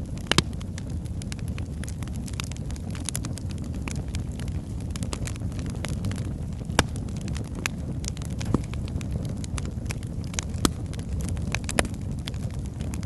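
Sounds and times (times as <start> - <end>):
fire flames rumbling: 0.0 - 13.0
logs crackling and popping: 0.0 - 13.0.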